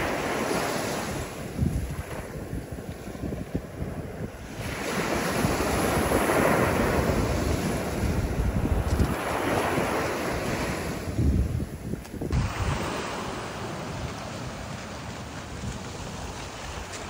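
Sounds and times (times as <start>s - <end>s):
wave breaking and washing up: 0.0s - 17.0s
wind rumble on microphone: 0.0s - 17.0s.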